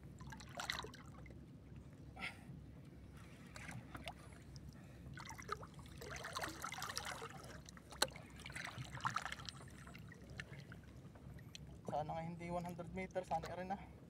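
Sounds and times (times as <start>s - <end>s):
water lapping against a boat: 0.0s - 14.0s.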